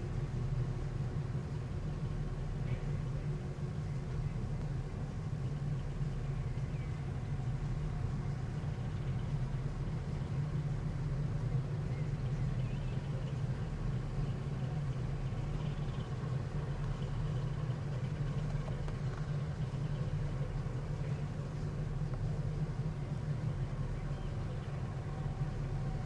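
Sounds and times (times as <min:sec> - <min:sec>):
ship engines rumbling: 0:00.0 - 0:26.0.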